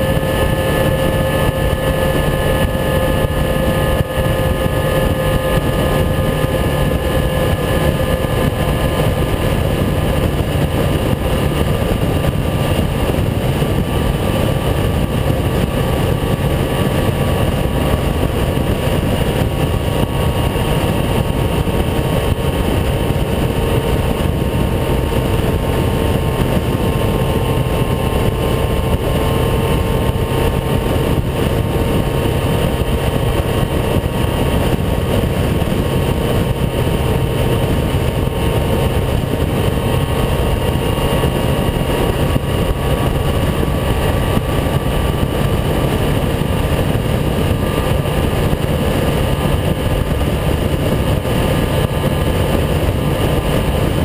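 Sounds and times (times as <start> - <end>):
motorcycle engine steady: 0.0 - 54.0
wind rumbling on microphone: 0.0 - 54.0.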